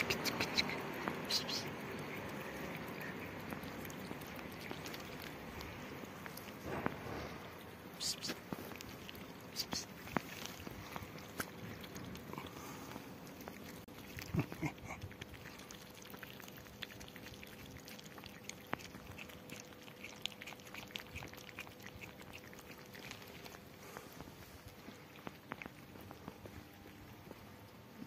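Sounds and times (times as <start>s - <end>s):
kittens chewing food: 0.0s - 28.0s.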